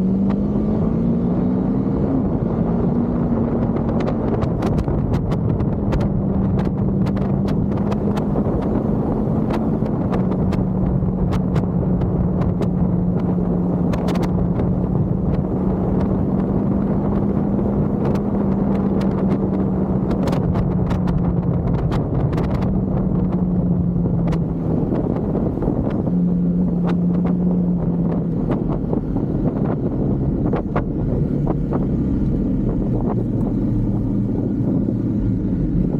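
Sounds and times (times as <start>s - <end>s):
motorcycle engine cruising: 0.0s - 35.9s
wind noise on microphone: 0.0s - 35.9s.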